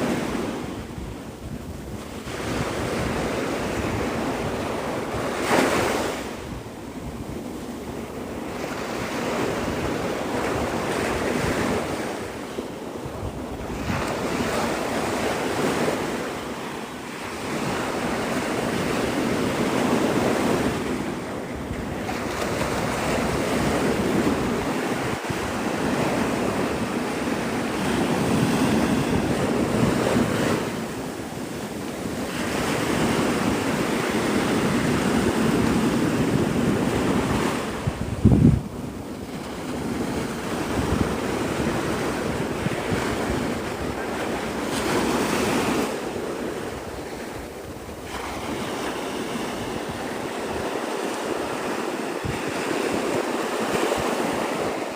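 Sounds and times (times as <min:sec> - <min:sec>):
wind buffeting microphone: 0:00.0 - 0:54.9
surf breaking on beach: 0:07.8 - 0:54.9.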